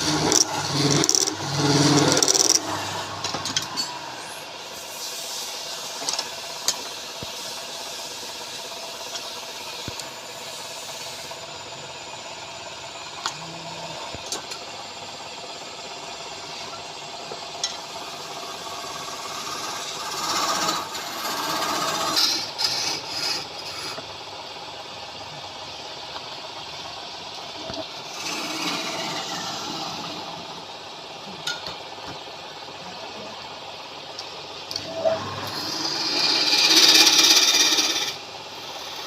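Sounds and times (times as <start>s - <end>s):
tool scraping spinning wood: 0.0s - 39.0s
wood lathe running: 0.0s - 39.0s.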